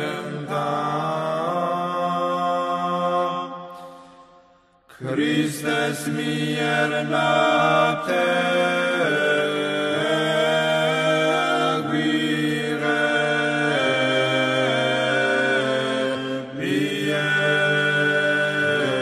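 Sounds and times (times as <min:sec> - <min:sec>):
choir chanting without instruments: 0:00.0 - 0:19.0.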